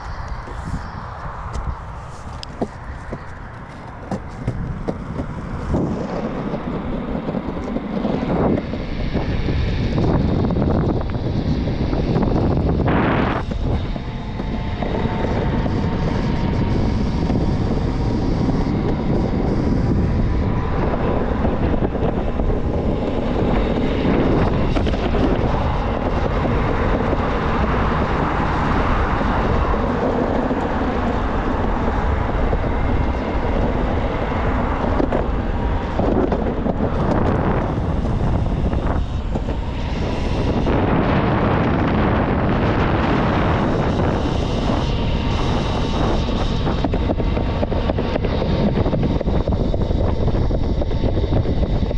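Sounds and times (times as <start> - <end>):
faint steady whine: 0.0 - 51.9
wheels rolling over pavement: 0.0 - 51.9
wind buffeting microphone: 0.0 - 51.9.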